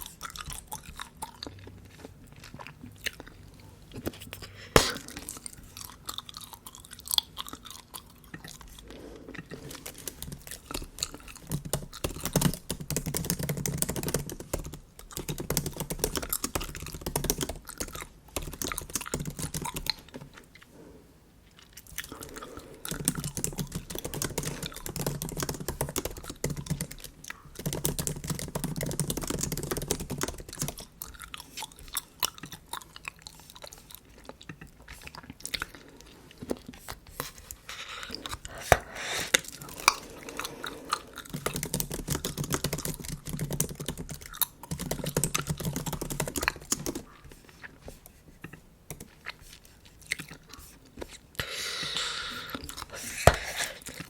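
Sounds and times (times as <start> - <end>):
gum chewing close up: 0.0 - 12.7, 14.8 - 20.7, 21.4 - 54.0.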